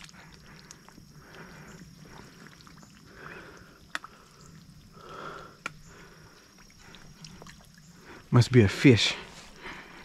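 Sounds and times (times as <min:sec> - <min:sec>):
wading through shallow water: 0:00.0 - 0:10.0.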